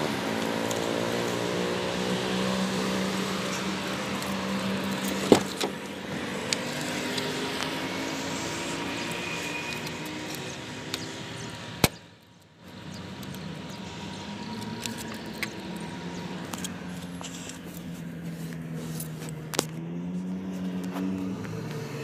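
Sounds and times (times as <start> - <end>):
car engine: 0.0 - 22.0
road noise: 0.0 - 22.0.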